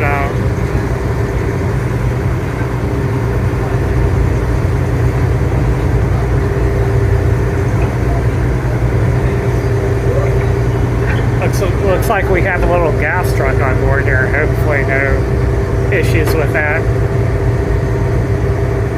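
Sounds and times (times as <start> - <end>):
ferry engine drone: 0.0 - 18.9
steady hum: 0.0 - 18.9.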